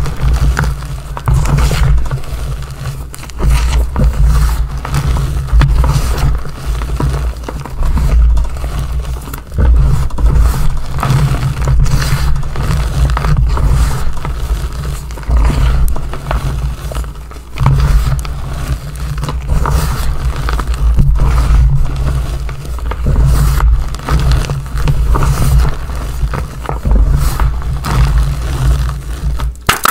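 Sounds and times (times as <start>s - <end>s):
hands crushing chalk: 0.0s - 29.9s.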